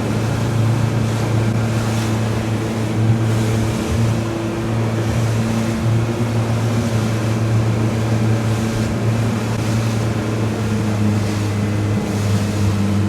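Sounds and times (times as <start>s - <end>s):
motorboat engine hum: 0.0s - 13.0s
water rushing: 0.0s - 13.0s.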